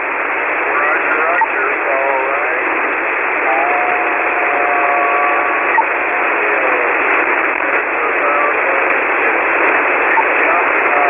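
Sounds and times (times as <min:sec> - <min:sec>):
radio static: 0:00.0 - 0:11.0
weak voice in static: 0:00.0 - 0:11.0.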